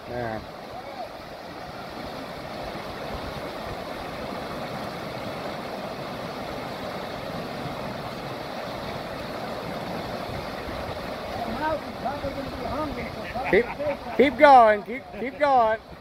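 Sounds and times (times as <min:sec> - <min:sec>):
river rapids rushing over rocks: 0:00.0 - 0:16.0.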